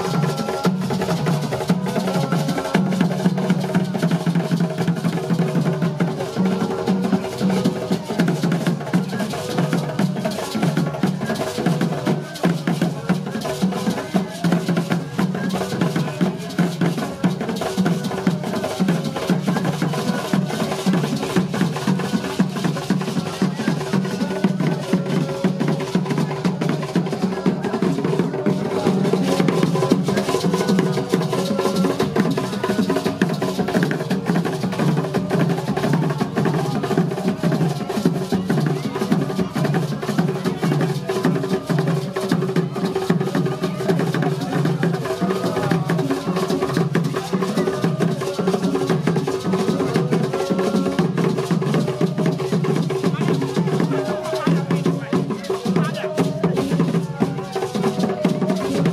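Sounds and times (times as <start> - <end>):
fast drumming: 0.0 - 58.9.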